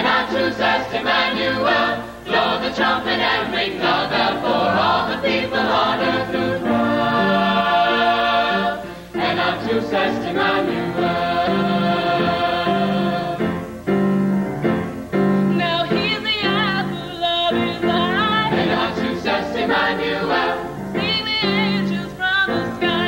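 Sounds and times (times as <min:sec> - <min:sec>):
choir singing: 0:00.0 - 0:13.7, 0:16.0 - 0:21.9.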